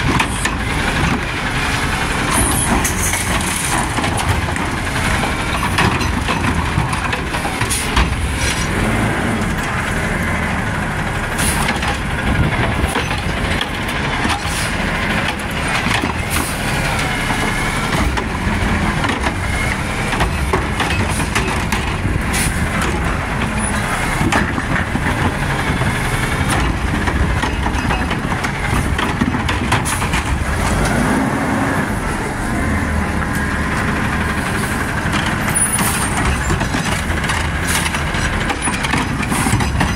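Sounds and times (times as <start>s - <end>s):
carts banging against hopper: 0.0s - 9.9s, 11.3s - 31.3s, 33.2s - 39.9s
garbage truck engine revving: 0.0s - 39.9s.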